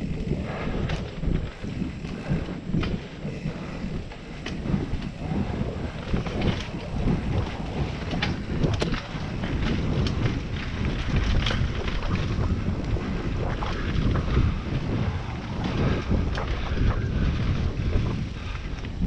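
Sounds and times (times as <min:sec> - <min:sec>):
bike rattling and clicking: 0:00.0 - 0:19.0
tyres rumbling on dirt trail: 0:00.0 - 0:19.0
wind buffeting microphone: 0:00.0 - 0:19.0.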